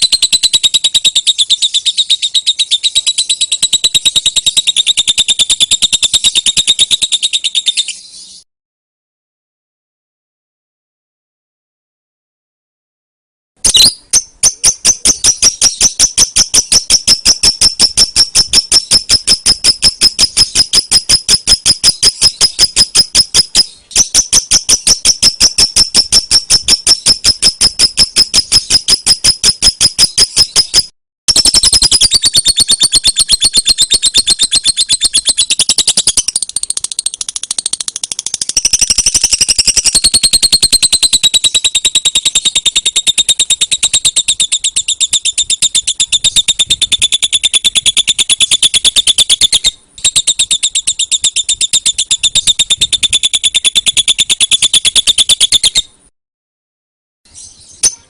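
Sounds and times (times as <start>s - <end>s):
lovebird chirping rapidly: 0.0s - 8.4s, 13.6s - 56.0s, 57.3s - 58.0s.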